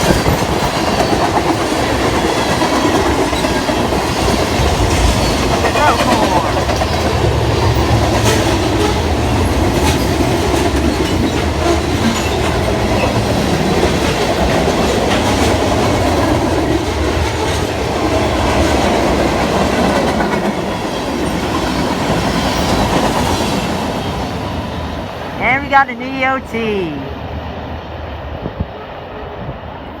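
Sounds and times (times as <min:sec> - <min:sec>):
freight train cars rumbling: 0:00.0 - 0:30.0.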